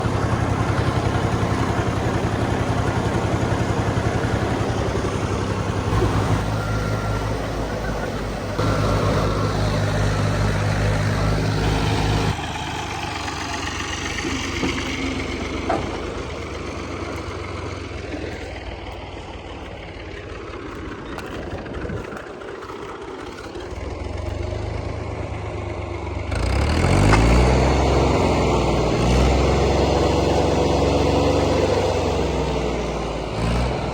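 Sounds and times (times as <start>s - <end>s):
farm machinery engines running: 0.0s - 33.9s.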